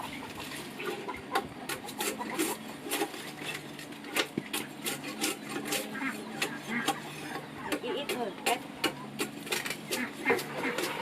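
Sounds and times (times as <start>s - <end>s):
scraping on wood: 0.0s - 11.0s.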